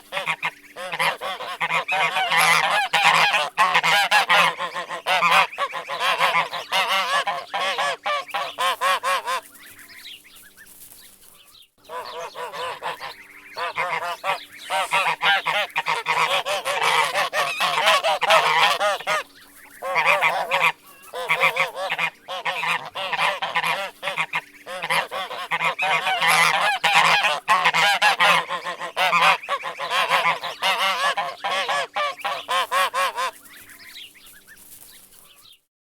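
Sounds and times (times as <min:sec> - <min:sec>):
geese honking: 0:00.0 - 0:10.8, 0:11.8 - 0:35.4.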